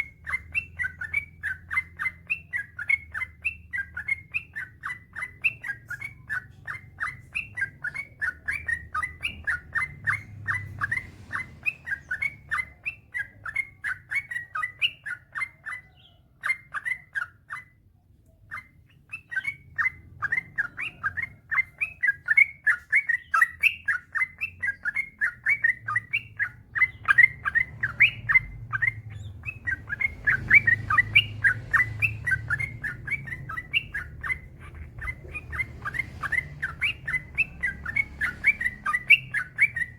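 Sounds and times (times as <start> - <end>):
bulbul singing chirping runs: 0.0 - 39.9.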